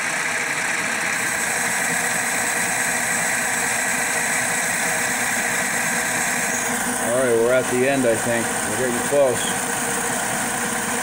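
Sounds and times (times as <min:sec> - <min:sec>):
metal lathe cutting metal: 0:00.0 - 0:11.0.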